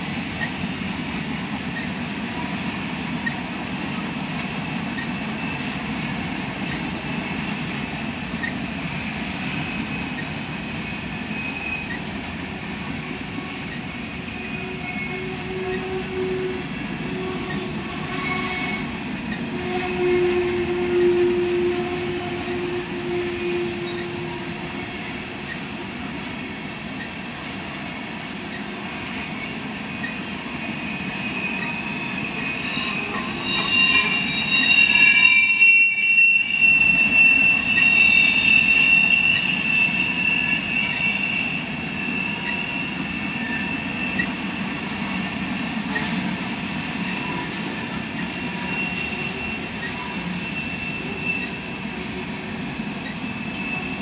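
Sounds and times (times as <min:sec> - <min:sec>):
freight train rumbling past: 0:00.0 - 0:54.0
train wheels squealing: 0:00.0 - 0:54.0.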